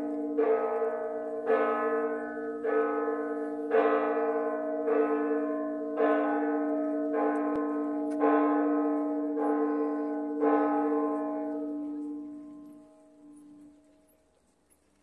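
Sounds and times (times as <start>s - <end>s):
church bells ringing: 0.0s - 14.4s.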